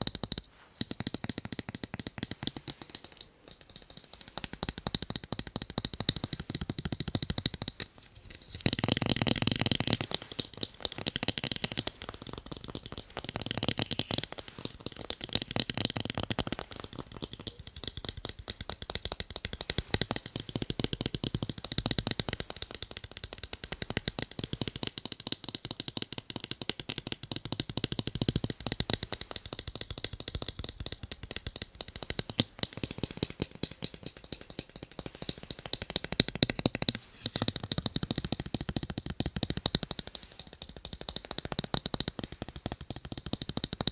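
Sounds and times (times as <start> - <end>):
fast tapping on eyeglasses: 0.0 - 43.9.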